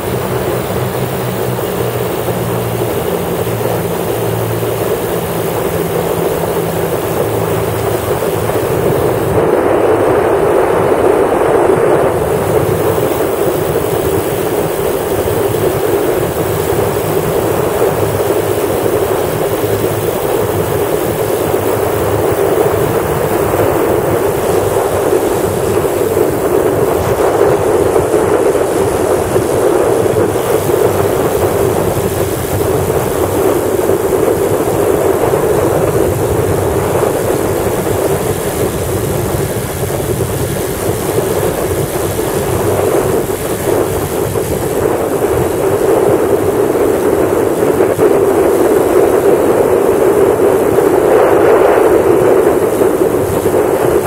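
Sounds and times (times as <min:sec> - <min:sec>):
ultralight aircraft engines running: 0:00.0 - 0:54.0
wind rushing over microphone: 0:00.0 - 0:54.0.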